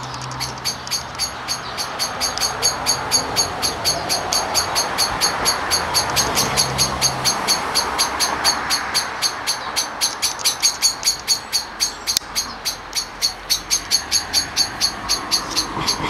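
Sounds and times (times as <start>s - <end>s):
cicada singing: 0.0s - 16.0s.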